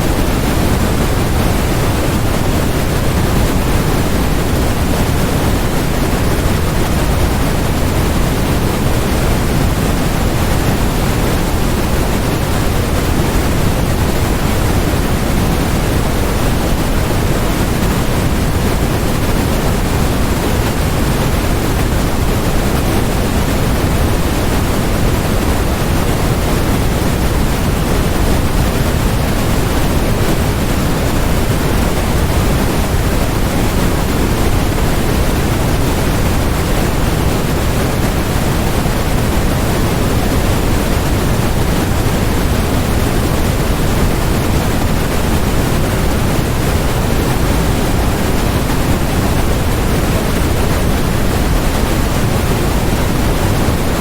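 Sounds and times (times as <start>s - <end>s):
white noise: 0.0s - 54.0s.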